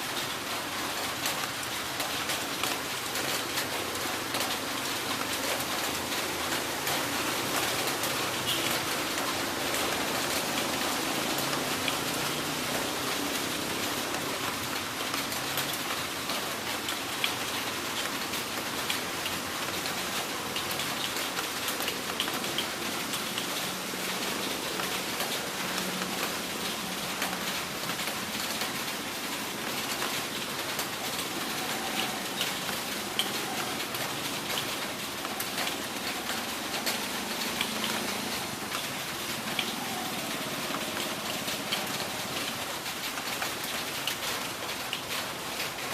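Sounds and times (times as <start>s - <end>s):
heavy rain on hard surface: 0.0s - 45.9s.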